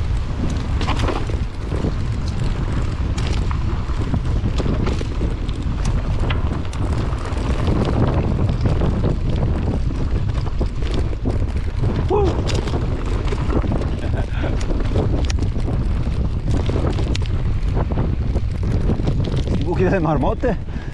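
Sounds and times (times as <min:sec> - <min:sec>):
bike clicks and rattles: 0:00.0 - 0:20.9
wind rushing over microphone: 0:00.0 - 0:20.9.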